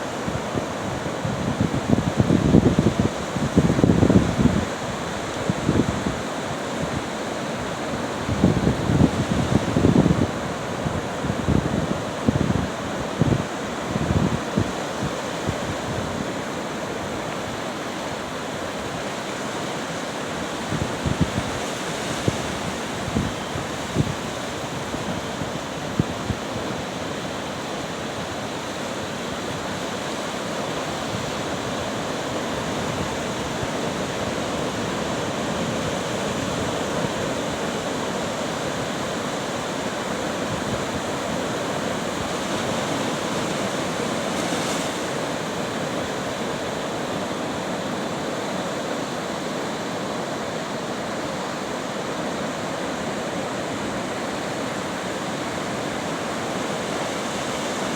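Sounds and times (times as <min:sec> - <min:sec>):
surf breaking on beach: 0:00.0 - 0:57.9.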